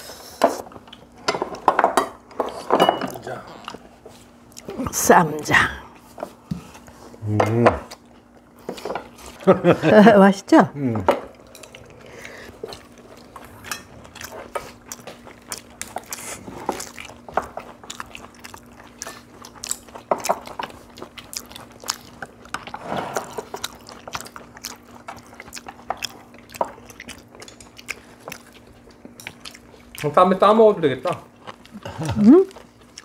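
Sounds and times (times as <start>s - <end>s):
chewing and crunching food: 0.5s - 5.0s, 7.8s - 9.6s, 11.1s - 33.0s.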